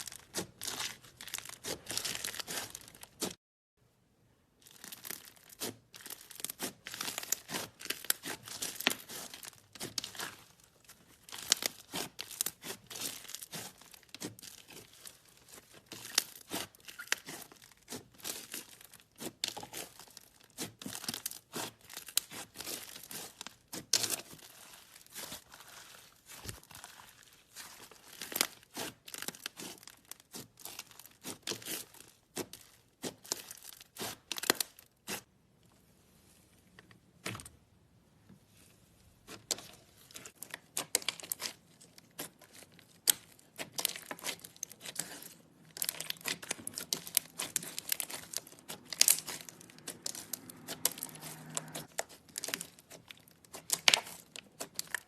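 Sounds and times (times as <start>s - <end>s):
slime crackling and popping: 0.0s - 3.4s, 4.6s - 35.3s, 39.3s - 55.0s.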